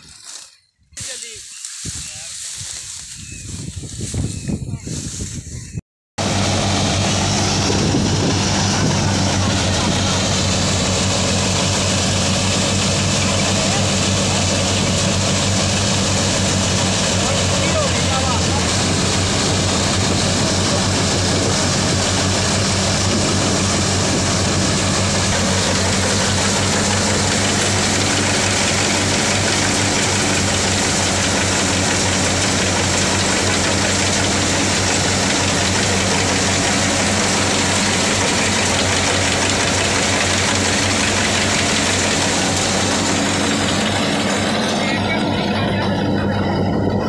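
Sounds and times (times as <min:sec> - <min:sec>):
threshing drum whirring: 0:06.2 - 0:47.0
tractor engine hum: 0:06.2 - 0:47.0.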